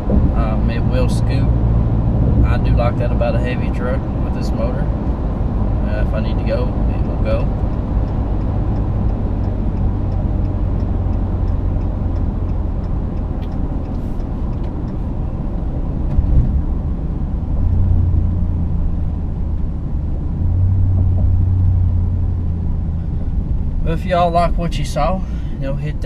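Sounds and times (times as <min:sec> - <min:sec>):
road rumble: 0:00.0 - 0:26.0
truck exhaust drone: 0:00.0 - 0:26.0.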